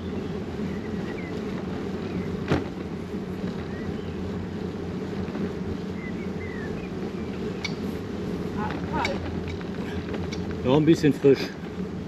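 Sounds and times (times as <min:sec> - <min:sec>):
bicycle tyres rolling: 0:00.0 - 0:12.0
wind buffeting microphone: 0:00.0 - 0:12.0.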